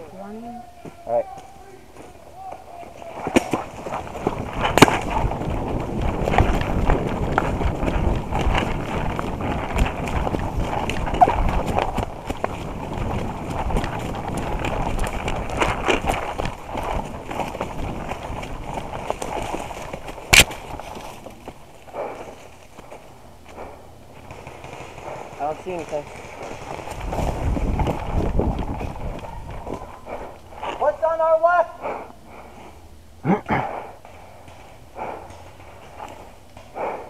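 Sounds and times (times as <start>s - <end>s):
footsteps running through dry leaves: 1.3s - 31.0s.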